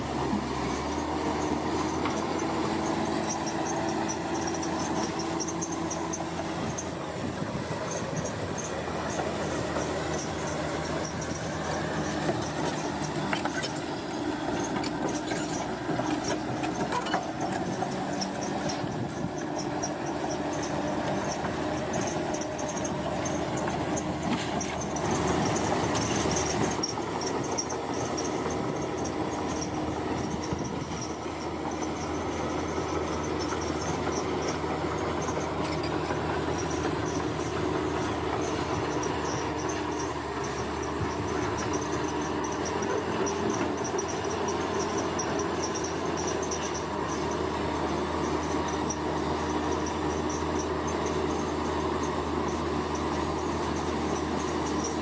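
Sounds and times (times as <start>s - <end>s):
diesel engine under load: 0.0s - 55.0s
steel tracks squealing and clanking: 0.0s - 55.0s.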